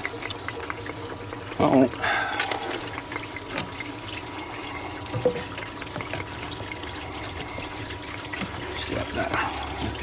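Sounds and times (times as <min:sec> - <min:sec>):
coolant trickling and dripping: 0:00.0 - 0:10.0.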